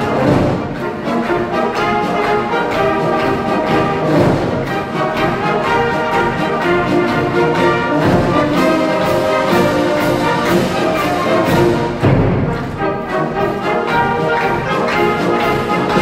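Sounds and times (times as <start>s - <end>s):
wind band playing with brass: 0.0s - 16.0s.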